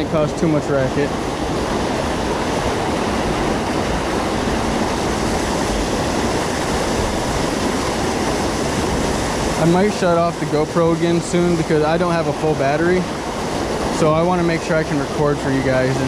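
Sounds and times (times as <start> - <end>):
stream pouring over small fall: 0.0 - 16.0.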